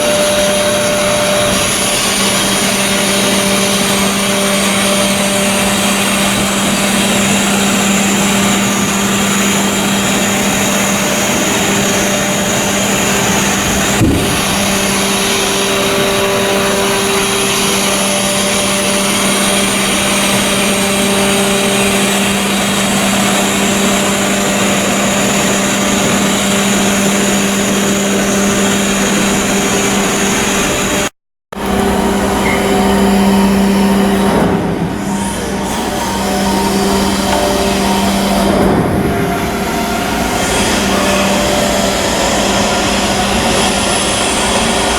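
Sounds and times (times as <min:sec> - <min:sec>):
heavy machinery droning: 0:00.0 - 0:44.9.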